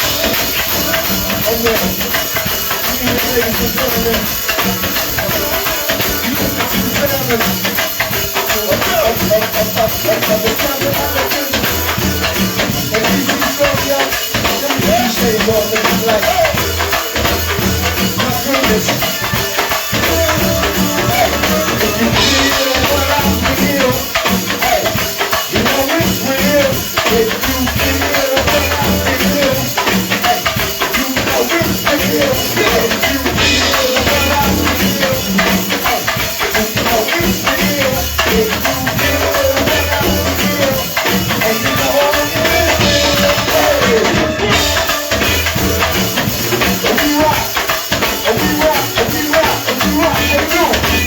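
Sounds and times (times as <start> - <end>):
live band music: 0.0 - 51.0.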